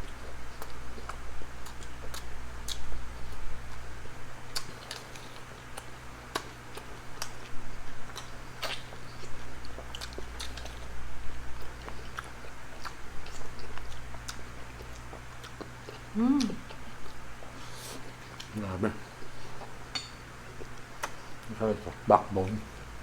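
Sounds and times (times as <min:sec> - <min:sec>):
chewing and biting food: 0:00.0 - 0:23.0
low steady hum: 0:00.0 - 0:23.0.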